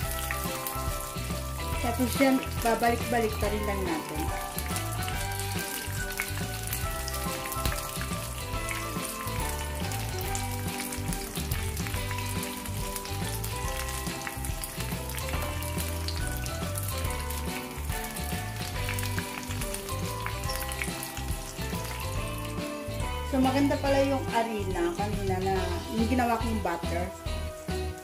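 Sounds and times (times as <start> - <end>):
vegetables deep-frying in oil: 0.0 - 28.0.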